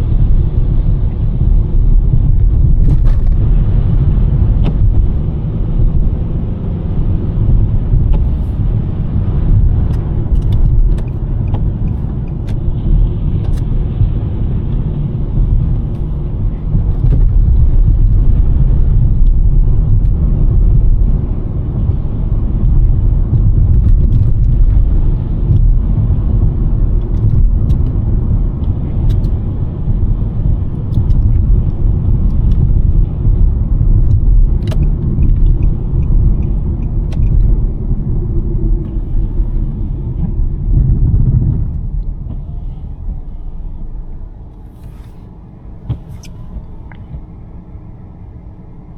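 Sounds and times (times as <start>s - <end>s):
tyre and road noise rumble: 0.0s - 48.9s.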